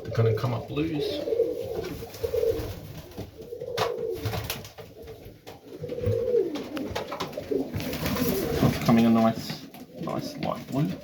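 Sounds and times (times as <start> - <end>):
pigeons cooing: 0.0 - 9.1.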